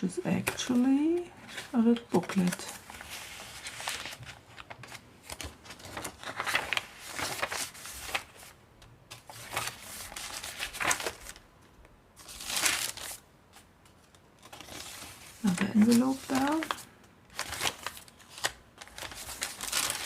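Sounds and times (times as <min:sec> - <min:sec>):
paper rustling and crinkling: 0:00.0 - 0:11.5, 0:12.2 - 0:20.0.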